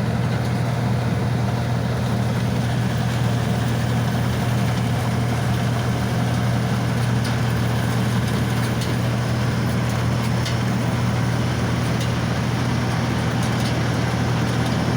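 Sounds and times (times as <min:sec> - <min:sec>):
harvesting machine engine: 0:00.0 - 0:14.9.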